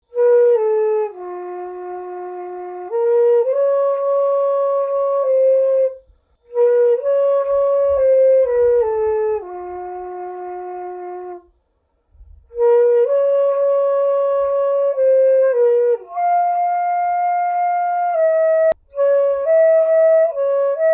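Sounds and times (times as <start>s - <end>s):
bamboo flute slow melody: 0.0s - 20.9s.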